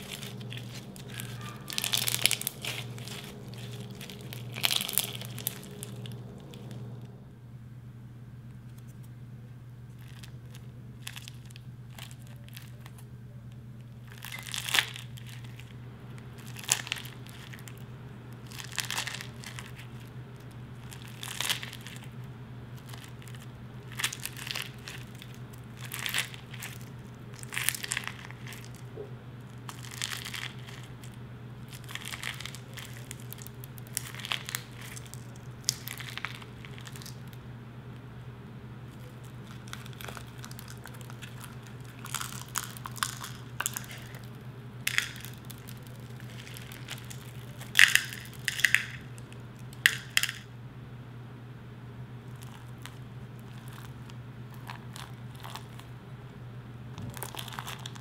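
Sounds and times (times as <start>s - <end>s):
crunchy slime crackling: 0.0s - 7.2s, 9.9s - 38.1s, 38.8s - 50.5s, 52.2s - 56.0s, 56.9s - 58.0s.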